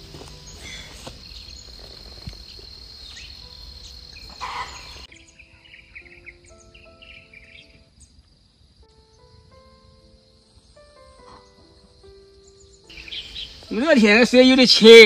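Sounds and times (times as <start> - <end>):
bird chirps: 0.0 - 8.2, 10.5 - 14.4
high insect trill: 0.0 - 15.0
soft background music: 0.0 - 15.0.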